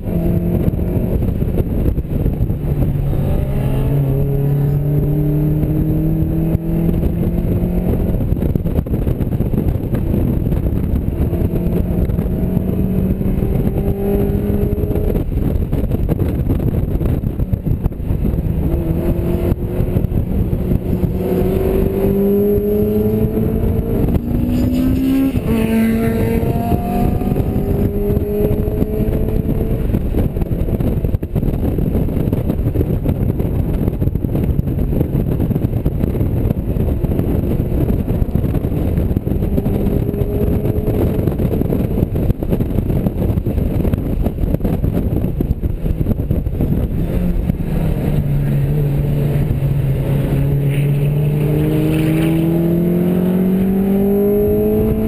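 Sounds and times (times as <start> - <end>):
car engine at full throttle: 0.0 - 55.0
wind and road noise: 0.0 - 55.0.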